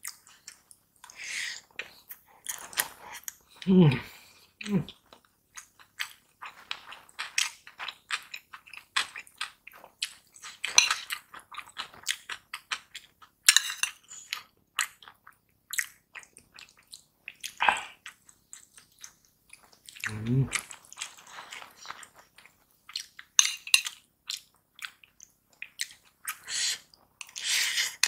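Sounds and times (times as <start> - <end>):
chewing: 0.0 - 28.0.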